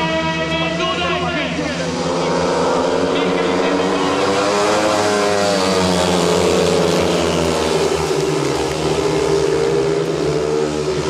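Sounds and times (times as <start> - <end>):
motorcycle engines racing: 0.0 - 11.0.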